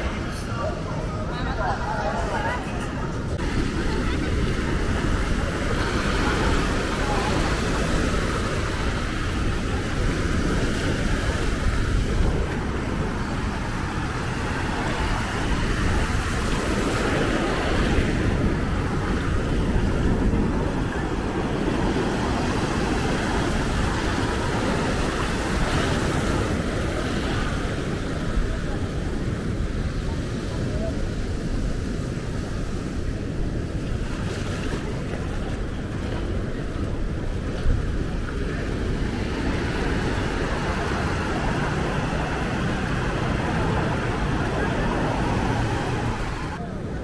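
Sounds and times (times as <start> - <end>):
people's voices: 0.0 - 47.0
road traffic noise: 0.0 - 47.0.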